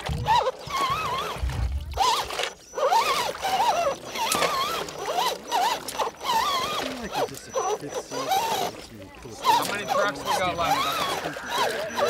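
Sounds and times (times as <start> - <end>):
toy truck electric motor whining: 0.2 - 1.4, 2.0 - 12.0.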